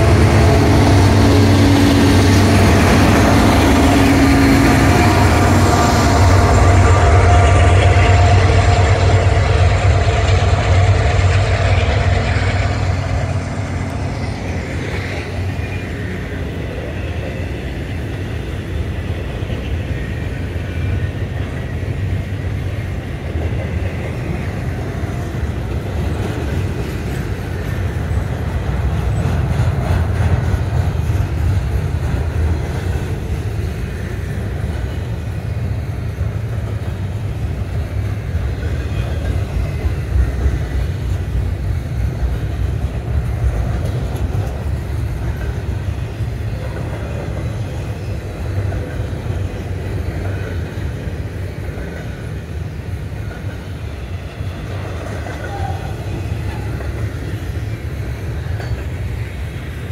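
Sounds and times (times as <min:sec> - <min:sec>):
diesel locomotive engine running: 0:00.0 - 0:59.9
freight cars rumbling and rattling: 0:00.0 - 0:59.9.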